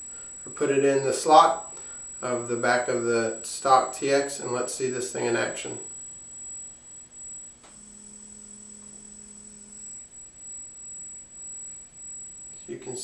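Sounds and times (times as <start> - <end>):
faint high-pitched whine: 0.0 - 13.0
gimbal motor humming: 1.1 - 13.0.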